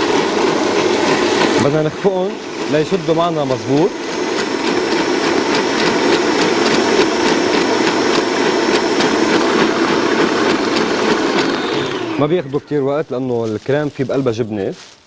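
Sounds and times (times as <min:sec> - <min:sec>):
stand mixer whisk beating: 0:00.0 - 0:14.1.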